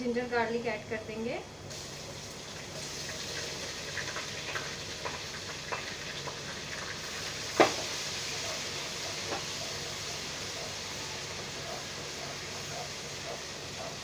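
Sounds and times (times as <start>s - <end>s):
onions sizzling in hot oil: 1.6s - 14.0s.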